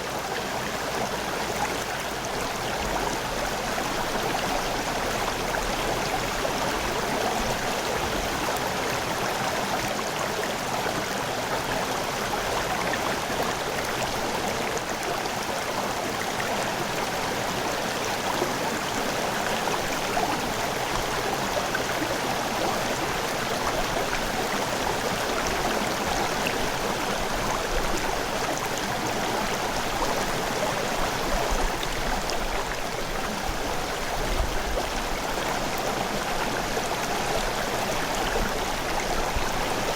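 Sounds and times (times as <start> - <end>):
river water gurgling over rocks: 0.0 - 39.9.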